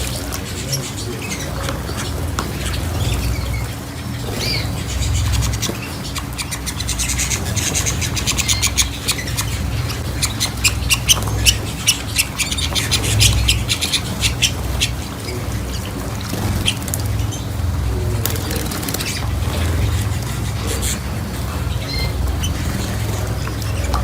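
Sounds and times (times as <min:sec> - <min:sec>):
pet birds calling: 0:00.0 - 0:24.0
steady low hum: 0:00.0 - 0:24.0.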